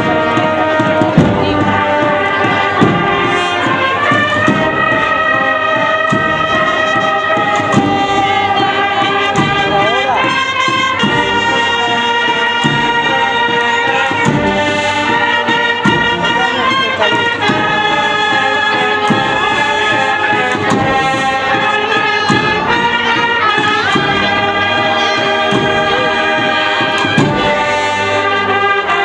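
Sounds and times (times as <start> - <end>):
brass band playing slow march: 0.0 - 29.0
drum strokes: 0.0 - 29.0.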